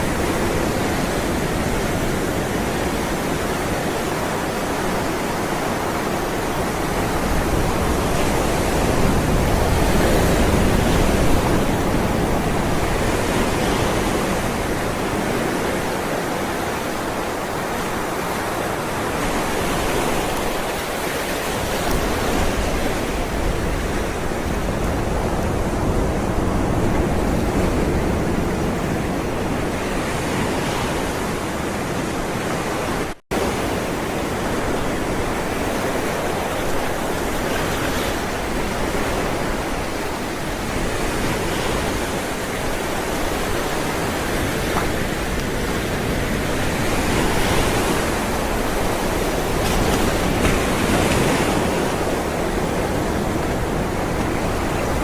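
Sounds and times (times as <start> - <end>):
ocean waves rolling in: 0.0 - 55.0.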